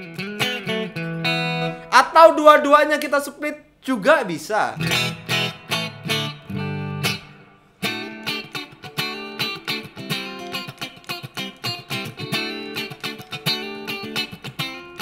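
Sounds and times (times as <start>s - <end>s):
clean electric guitar chords and notes: 0.0s - 2.0s, 4.8s - 15.0s.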